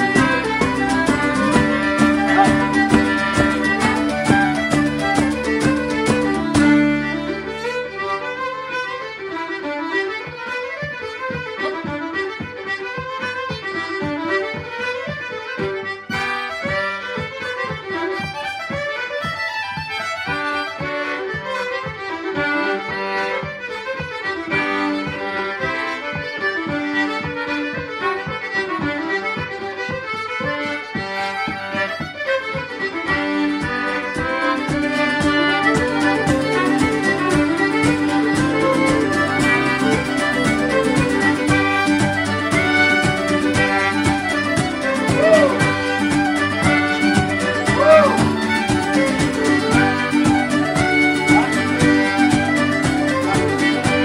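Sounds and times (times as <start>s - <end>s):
fast folk melody: 0.0s - 54.0s
strummed beat: 0.0s - 54.0s.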